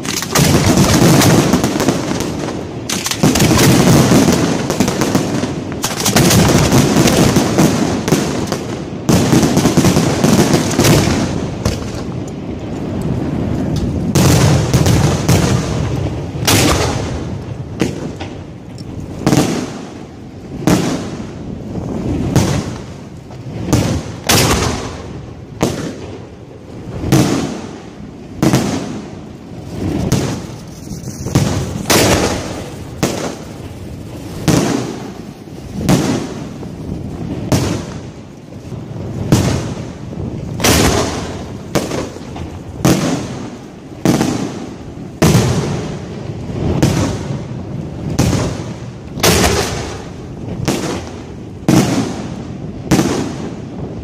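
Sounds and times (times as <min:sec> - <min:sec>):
fireworks bangs with echo: 0:00.0 - 0:54.0.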